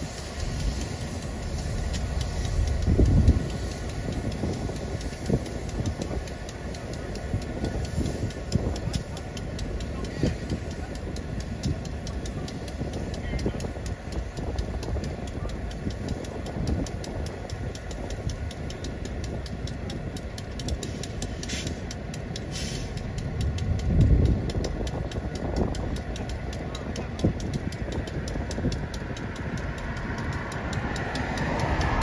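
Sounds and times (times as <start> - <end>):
diesel locomotive engine idling: 0.0 - 32.0.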